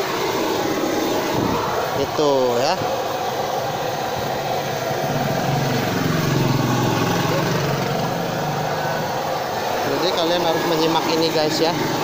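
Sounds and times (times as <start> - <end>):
gas burner roaring: 0.0 - 12.0
small engine humming: 0.0 - 12.0.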